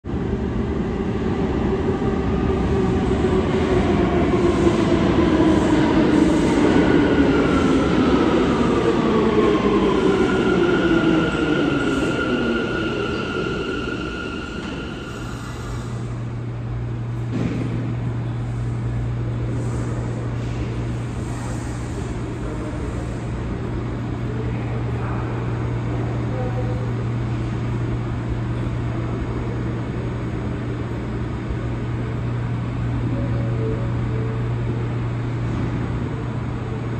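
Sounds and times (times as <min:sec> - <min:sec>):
train low hum: 0:00.0 - 0:36.9
subway train motor whine: 0:00.1 - 0:36.9.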